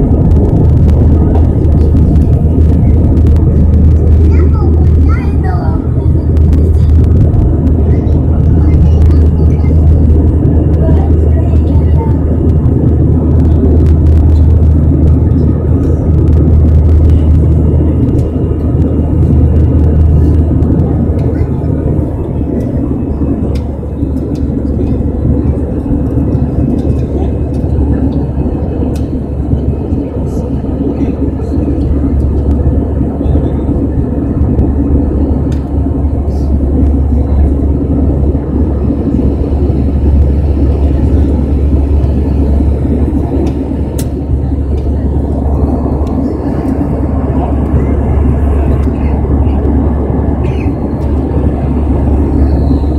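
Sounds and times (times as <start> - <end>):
jet engine cabin rumble: 0.0 - 52.9.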